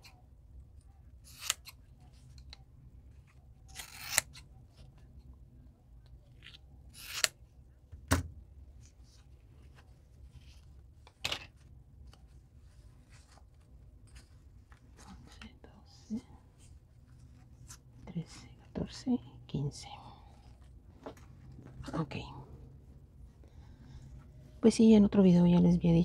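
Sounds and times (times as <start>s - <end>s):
faint handling noises: 0.0s - 24.6s.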